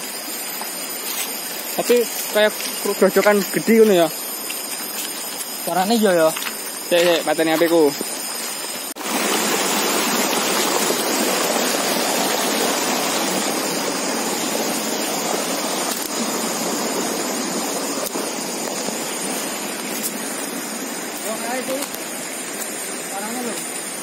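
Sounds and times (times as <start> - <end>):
stream rushing over stones: 0.0 - 24.0.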